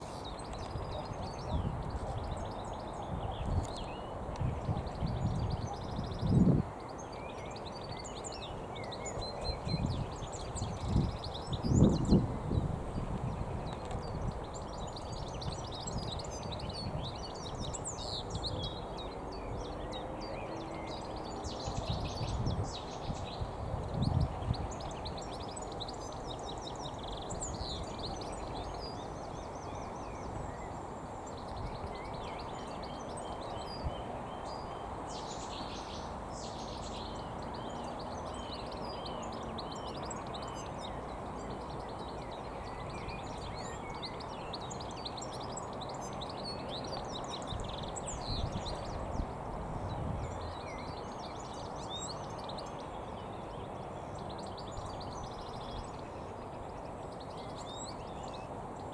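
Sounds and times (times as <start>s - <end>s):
finch twittering song: 0.0s - 58.9s.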